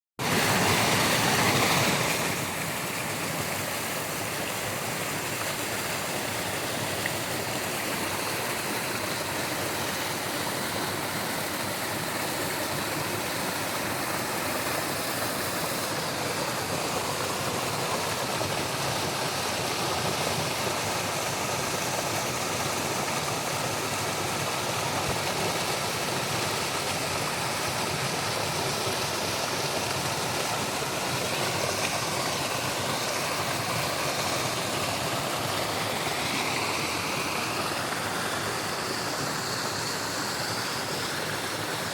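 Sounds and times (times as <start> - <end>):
waterfall rushing: 0.2 - 41.9.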